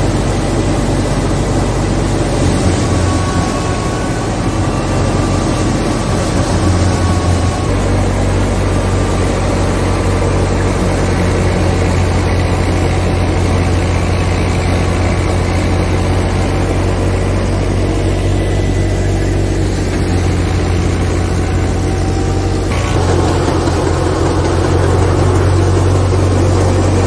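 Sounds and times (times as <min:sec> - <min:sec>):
thresher running: 0:00.0 - 0:27.0
tractor engine humming: 0:00.0 - 0:27.0.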